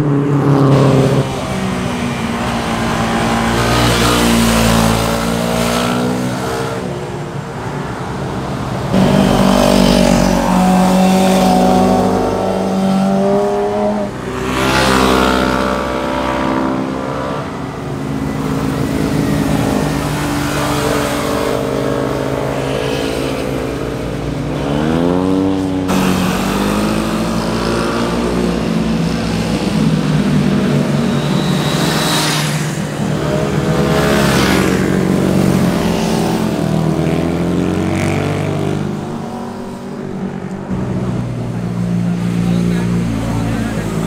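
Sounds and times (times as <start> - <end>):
motorcycles passing and revving: 0.0 - 44.0.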